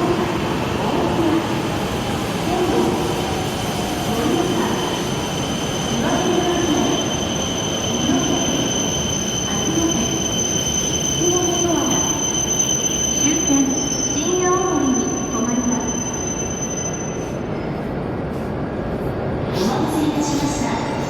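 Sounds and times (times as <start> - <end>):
train high-pitched whine: 0.0 - 17.6.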